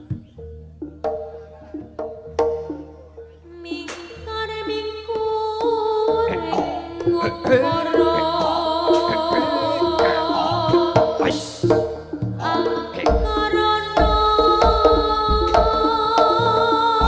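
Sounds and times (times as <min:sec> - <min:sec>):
hand drum strokes: 0:00.0 - 0:17.0
sustained pitched percussion notes: 0:00.0 - 0:17.0.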